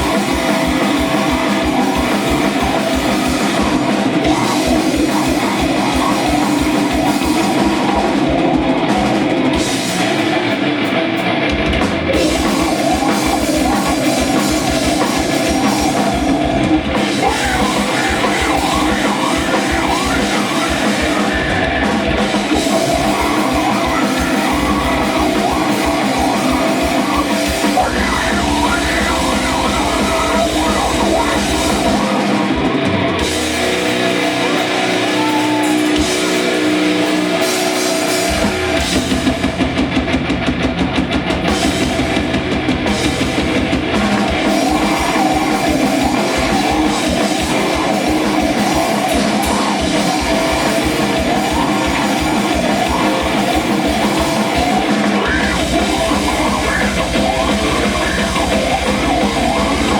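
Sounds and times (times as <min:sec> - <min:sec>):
fast low drum beat: 0:00.0 - 0:10.8, 0:11.5 - 0:59.9
live rock band playing: 0:00.0 - 0:59.9.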